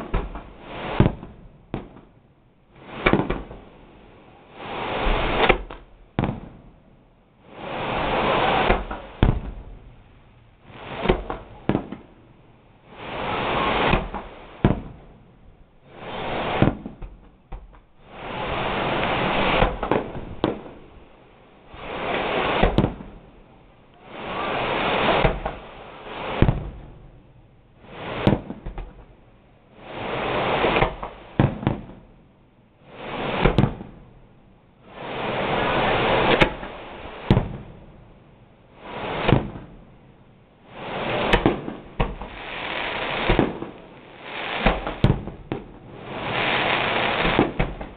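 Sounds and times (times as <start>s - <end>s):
fireworks booming and cracking: 0.0s - 47.9s.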